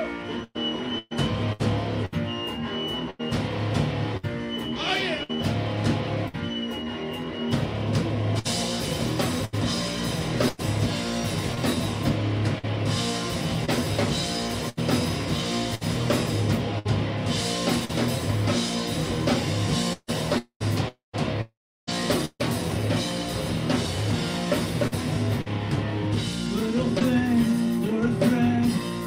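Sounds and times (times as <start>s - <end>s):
bass guitar: 0.0s - 29.0s
drum kit: 0.0s - 29.0s
electric guitar: 5.4s - 29.0s.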